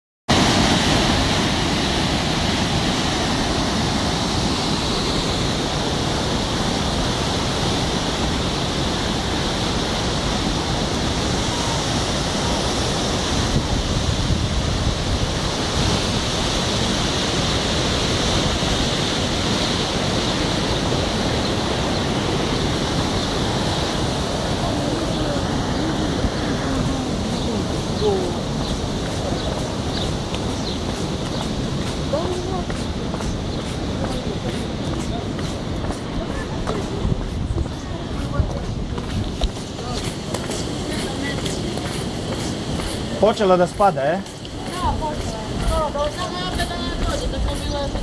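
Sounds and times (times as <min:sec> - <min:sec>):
floodwater rushing: 0:00.3 - 0:48.0.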